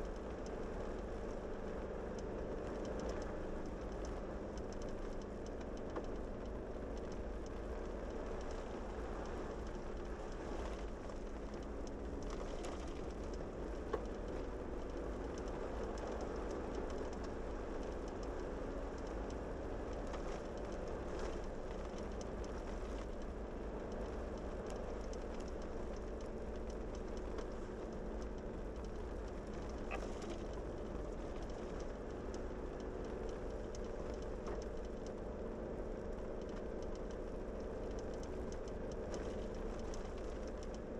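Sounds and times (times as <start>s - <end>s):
light ticks: 0.0s - 40.9s
vehicle engine and tyre noise: 0.0s - 40.9s.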